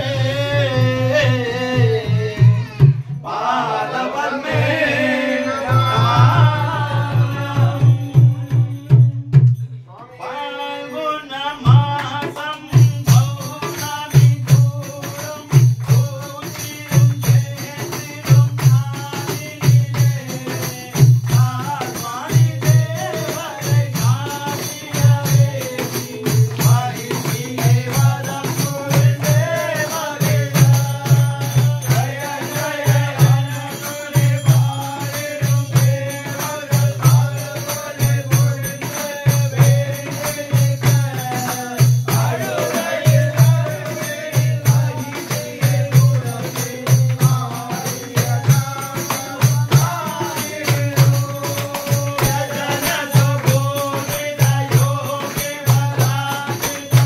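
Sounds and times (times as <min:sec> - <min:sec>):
group singing along: 0:00.0 - 0:09.0, 0:09.9 - 0:57.0
drum steady beat: 0:00.0 - 0:09.8, 0:11.7 - 0:57.0
man singing into microphone: 0:00.0 - 0:57.0
jingling percussion: 0:04.4 - 0:10.0, 0:10.8 - 0:57.0.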